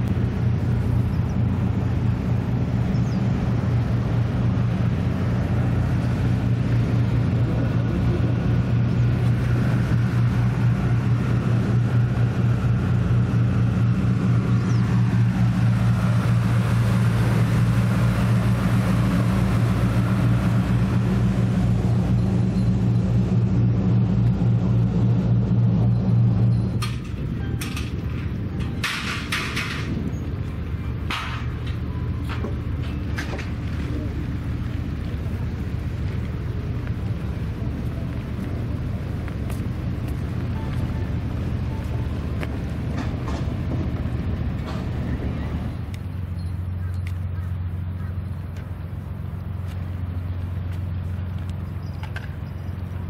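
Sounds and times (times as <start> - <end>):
low engine drone: 0.0 - 53.0.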